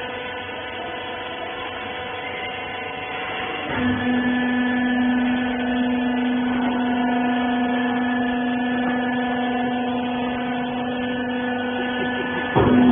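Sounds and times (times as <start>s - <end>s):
baler motor and pump hum: 0.0s - 12.9s.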